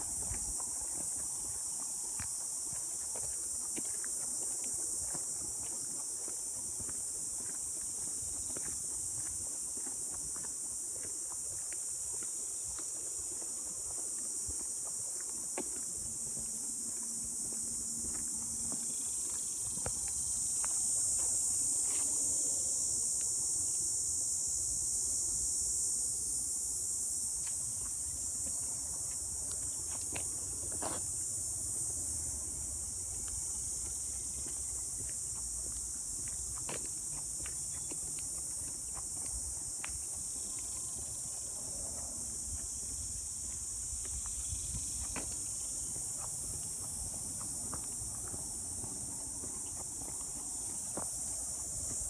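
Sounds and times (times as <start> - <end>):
high-pitched insect chorus: 0.0 - 52.0.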